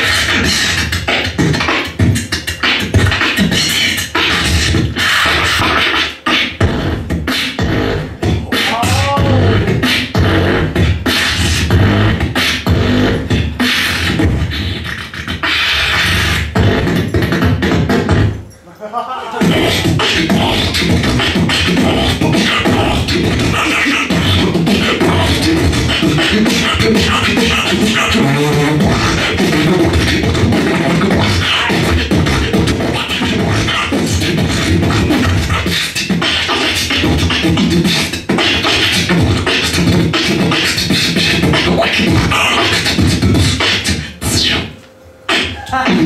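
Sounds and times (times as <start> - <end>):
beatboxing through microphone: 0.0 - 46.0.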